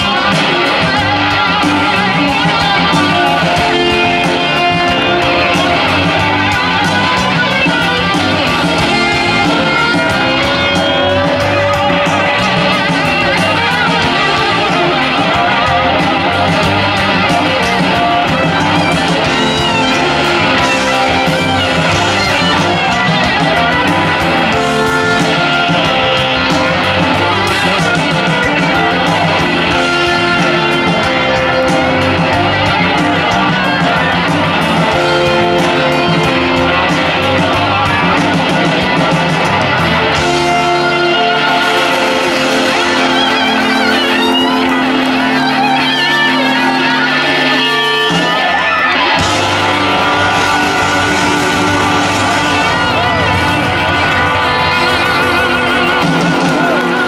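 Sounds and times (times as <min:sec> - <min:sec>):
drums and bass: 0:00.0 - 0:57.0
electric guitars: 0:00.0 - 0:57.0.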